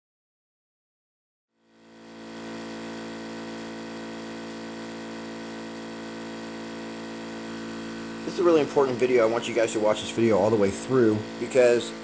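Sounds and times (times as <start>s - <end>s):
air compressor humming: 1.6s - 12.0s.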